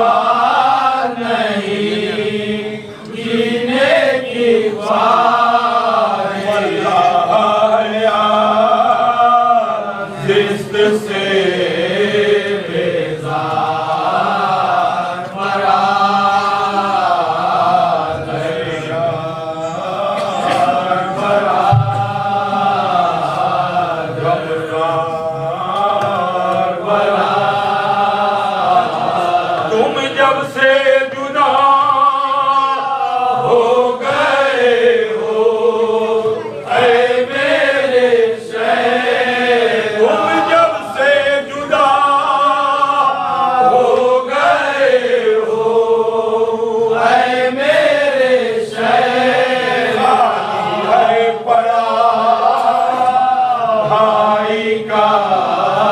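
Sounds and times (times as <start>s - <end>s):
men chanting a lament: 0.0s - 55.9s.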